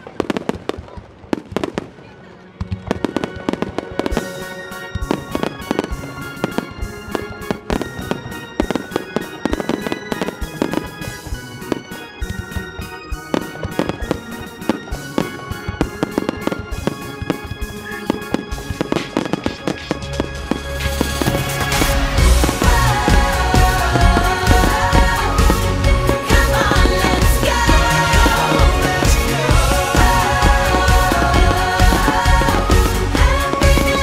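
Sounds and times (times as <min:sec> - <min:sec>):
fireworks bursting: 0:00.0 - 0:34.0
music: 0:01.4 - 0:34.0.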